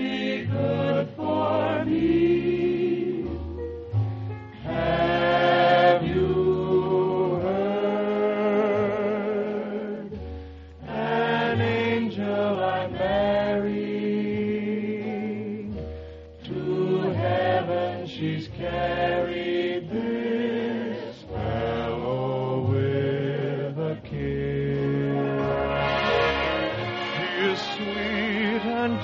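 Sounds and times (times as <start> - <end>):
choir singing with orchestra: 0.0 - 3.6, 4.6 - 10.1, 10.8 - 15.6, 16.5 - 29.0.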